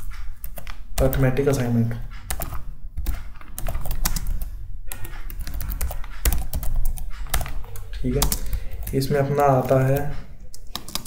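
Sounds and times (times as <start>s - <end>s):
keyboard typing: 0.0s - 11.0s.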